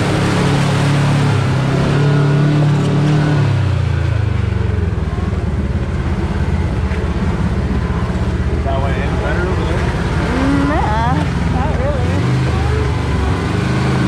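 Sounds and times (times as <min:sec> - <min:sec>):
utility vehicle engine running: 0:00.0 - 0:14.0.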